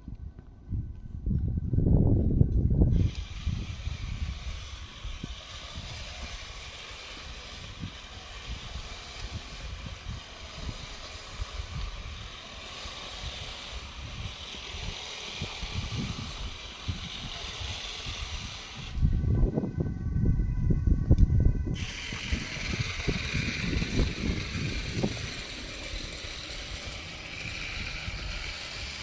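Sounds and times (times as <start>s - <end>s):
steady street hiss: 1.8s - 29.0s.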